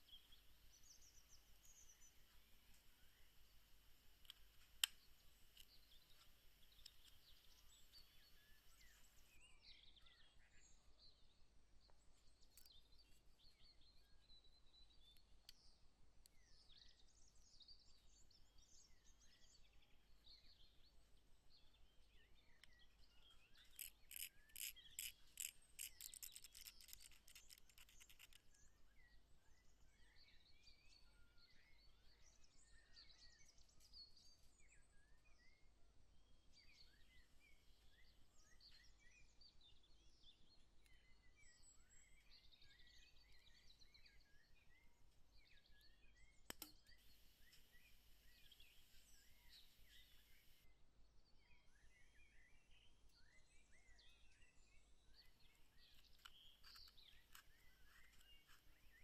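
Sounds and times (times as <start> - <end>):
faint birdsong: 0.0 - 59.0.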